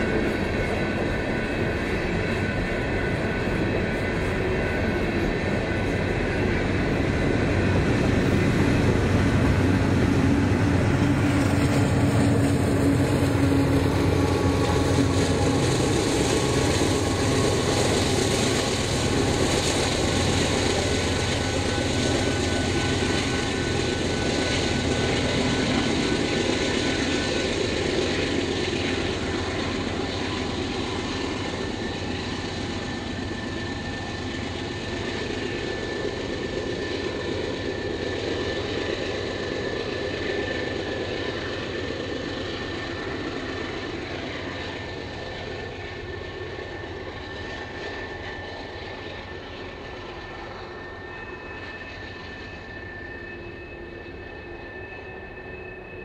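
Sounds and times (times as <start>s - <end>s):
train cars rumbling on rails: 0.0s - 52.8s
locomotive engines: 0.0s - 56.0s.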